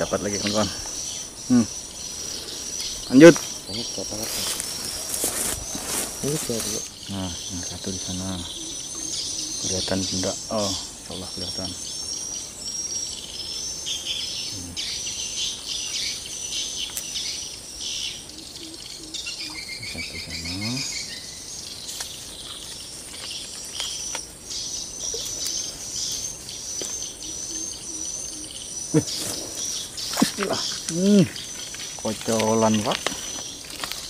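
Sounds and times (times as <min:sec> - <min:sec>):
bird chirps: 0:00.0 - 0:34.0
high insect trill: 0:00.0 - 0:34.0.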